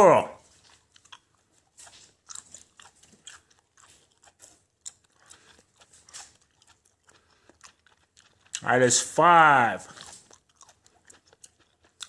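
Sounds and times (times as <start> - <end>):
mouth chewing gum: 0.0 - 12.0.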